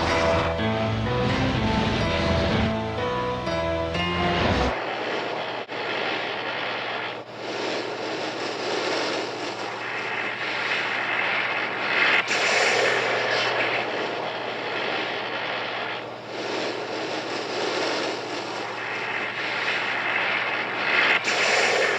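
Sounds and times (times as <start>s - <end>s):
rushing energy beam noise: 0.0s - 21.9s
steady low hum: 0.0s - 21.9s.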